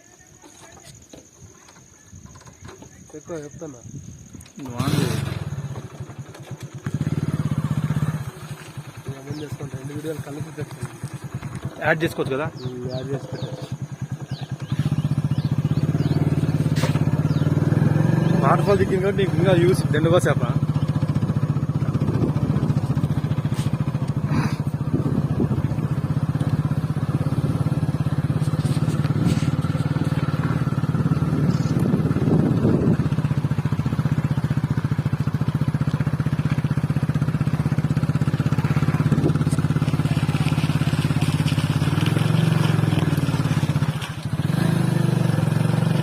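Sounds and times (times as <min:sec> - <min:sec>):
motorcycle engine running: 0:00.3 - 0:46.0.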